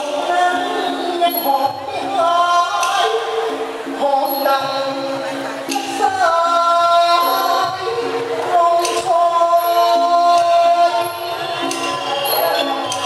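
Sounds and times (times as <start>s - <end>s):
instrumental accompaniment: 0.0s - 13.0s
person singing sliding vocal line: 0.0s - 13.0s
sharp percussion strikes: 1.3s - 13.0s.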